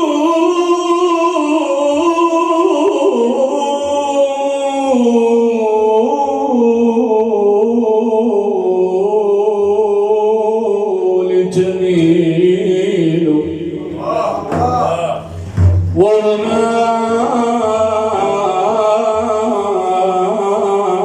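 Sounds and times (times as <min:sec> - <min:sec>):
man singing a chant: 0:00.0 - 0:21.0.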